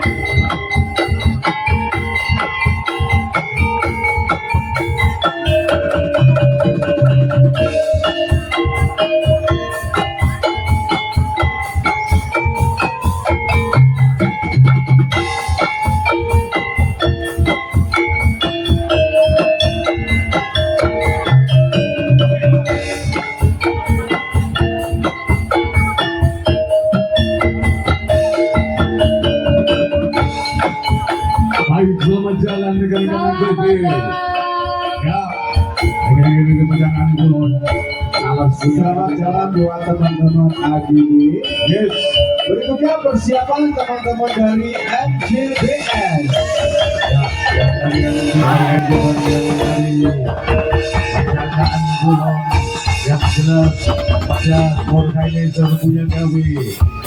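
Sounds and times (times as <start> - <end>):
drums and struck bamboo: 0.0 - 57.0
mallet-struck melody: 0.0 - 57.0
percussion ensemble playing: 0.0 - 57.0.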